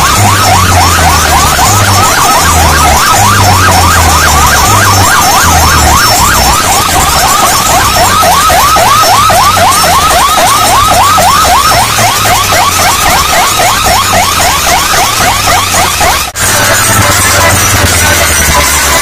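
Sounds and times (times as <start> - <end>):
deep bass line: 0.0 - 19.0
electronic siren effect: 0.0 - 19.0.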